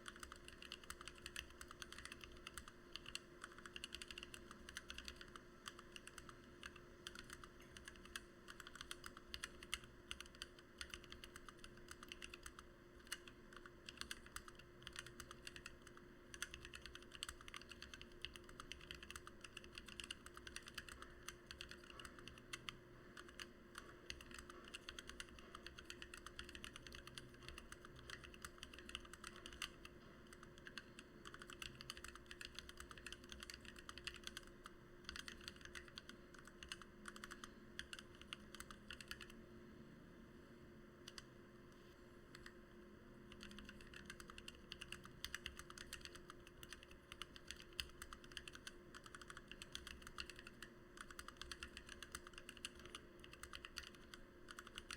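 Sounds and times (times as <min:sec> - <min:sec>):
typing on mechanical keyboard: 0:00.0 - 0:39.4, 0:41.0 - 0:41.3, 0:42.3 - 0:42.6, 0:43.3 - 0:54.9.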